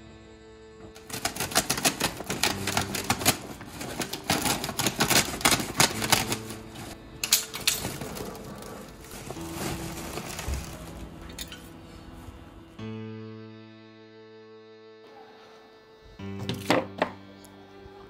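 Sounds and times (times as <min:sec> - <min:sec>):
low music tones: 0:00.0 - 0:18.0.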